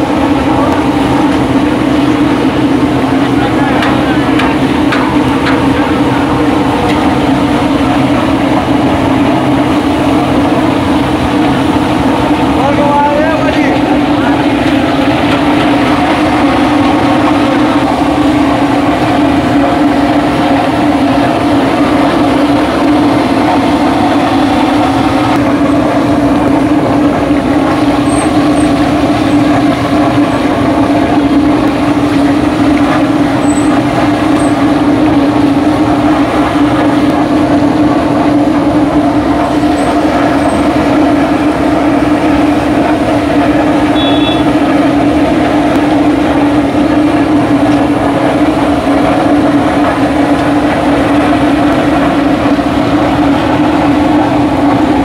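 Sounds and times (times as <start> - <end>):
burner roaring: 0.0 - 55.0.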